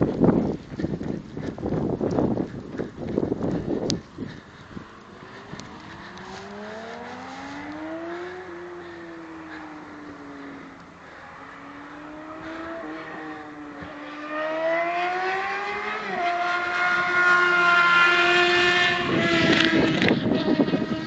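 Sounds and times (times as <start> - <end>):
motorcycle engine revving: 2.0 - 21.0.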